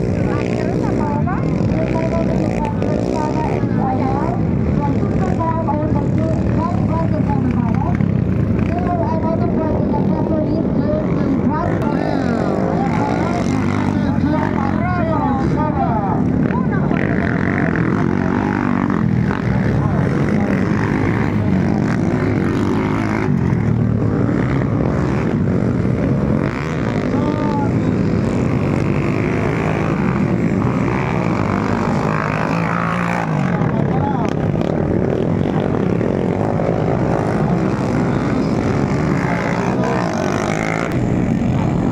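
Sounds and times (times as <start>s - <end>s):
dirt bike engines buzzing: 0.0s - 41.9s.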